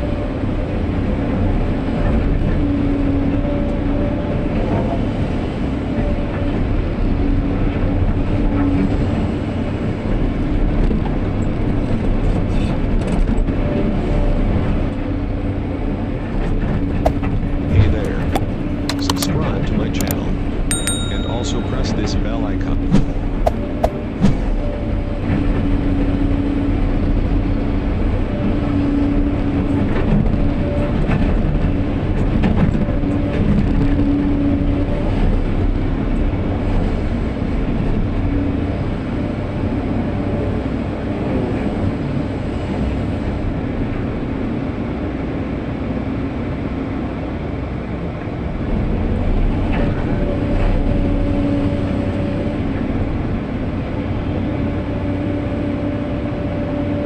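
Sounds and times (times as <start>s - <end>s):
excavator engine rumble: 0.0s - 57.0s
excavator whine: 0.0s - 57.0s.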